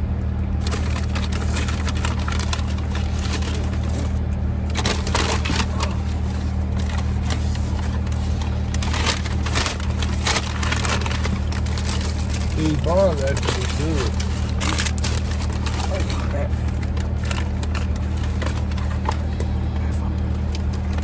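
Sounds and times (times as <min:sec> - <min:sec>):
steady low hum: 0:00.0 - 0:21.0
chewing crunchy food: 0:00.6 - 0:21.0
paper wrappers crinkling: 0:00.6 - 0:21.0.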